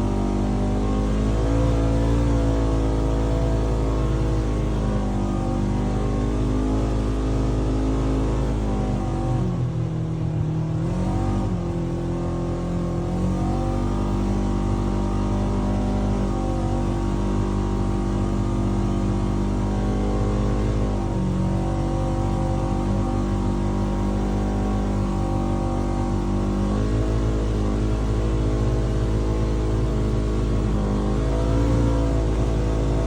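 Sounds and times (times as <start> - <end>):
off-road vehicle engine under load: 0.0 - 33.0.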